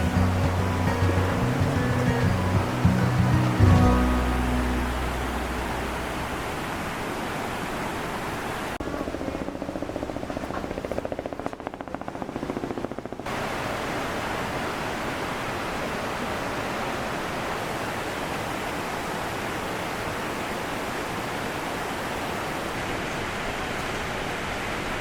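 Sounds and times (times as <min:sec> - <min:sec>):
waterfall roar: 0:00.0 - 0:08.8, 0:13.3 - 0:25.0.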